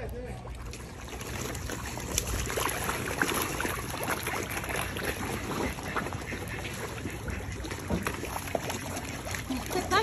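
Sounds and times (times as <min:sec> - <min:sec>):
churning water: 0:00.0 - 0:10.0
fish splashing and gulping: 0:00.0 - 0:10.0.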